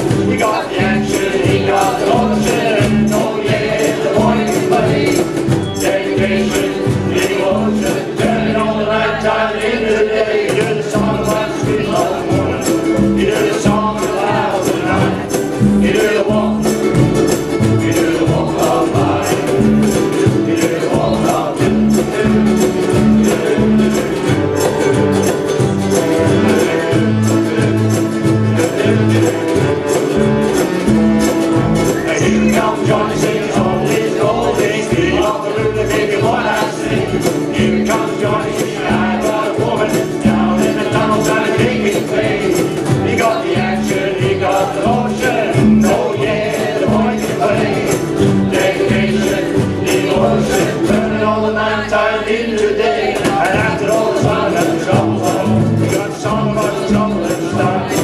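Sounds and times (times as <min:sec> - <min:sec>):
low bass notes: 0:00.0 - 0:58.0
ukulele band strumming: 0:00.0 - 0:58.0.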